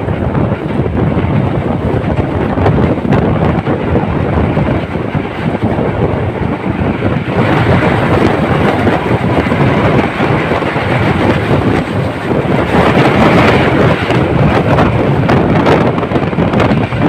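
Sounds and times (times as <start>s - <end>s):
train carriage rumbling on rails: 0.0s - 17.0s.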